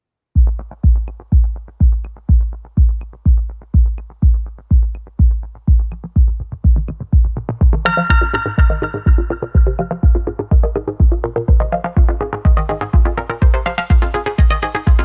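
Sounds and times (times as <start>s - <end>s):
deep kick drum beat: 0.4s - 15.0s
electronic music: 0.4s - 15.0s.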